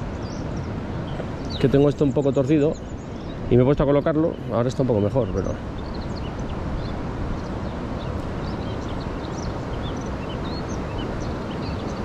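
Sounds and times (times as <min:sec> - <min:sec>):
river rushing: 0:00.0 - 0:12.0
small birds chirping: 0:00.0 - 0:12.0.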